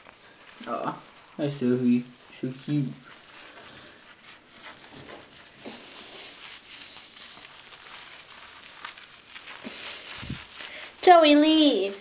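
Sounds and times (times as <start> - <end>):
hands scrubbing wet dog fur: 0.0 - 12.0.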